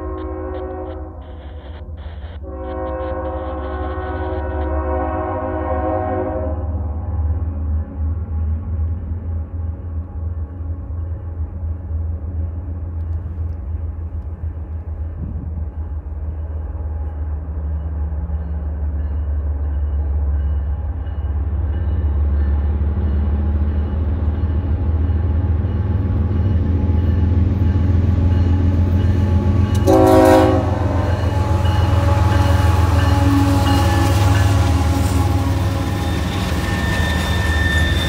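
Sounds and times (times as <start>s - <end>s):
locomotive engine rumble: 0.0s - 38.0s.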